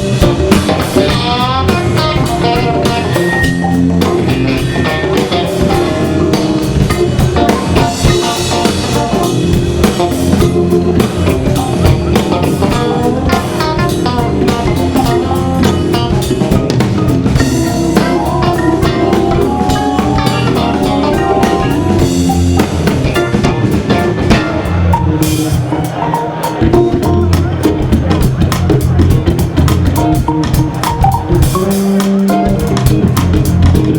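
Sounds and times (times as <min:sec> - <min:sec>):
drum kit groove: 0:00.0 - 0:33.9
guitar: 0:00.0 - 0:33.9
hammond organ: 0:00.0 - 0:33.9.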